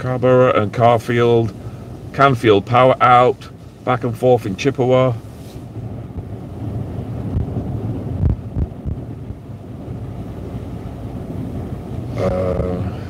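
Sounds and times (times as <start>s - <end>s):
storm wind buffeting truck: 0.0s - 13.0s.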